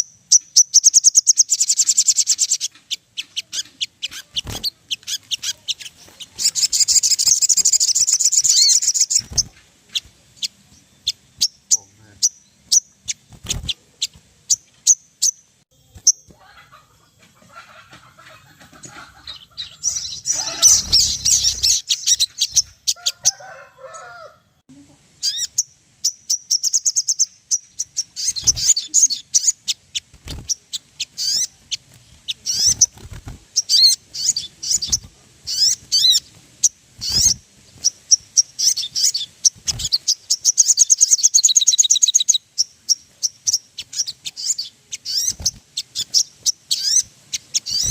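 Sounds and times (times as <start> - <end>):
birds chirping and trilling: 0.0 - 24.4, 25.2 - 47.9.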